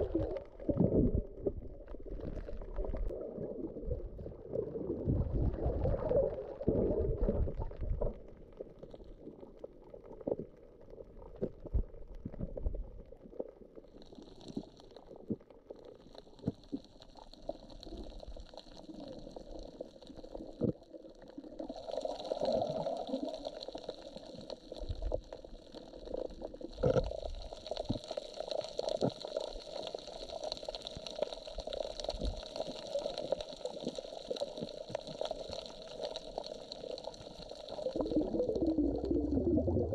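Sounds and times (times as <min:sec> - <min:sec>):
underwater gurgling and rumbling: 0:00.0 - 0:39.9
sharp clicks and crackles: 0:05.8 - 0:39.9.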